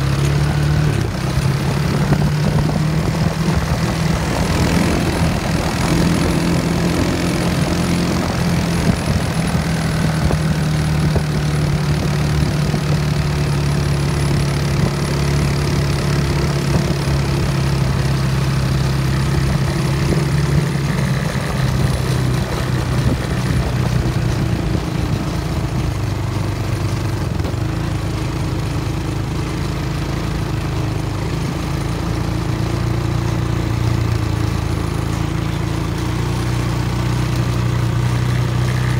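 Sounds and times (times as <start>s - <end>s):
quad bike engine droning: 0.0s - 38.9s.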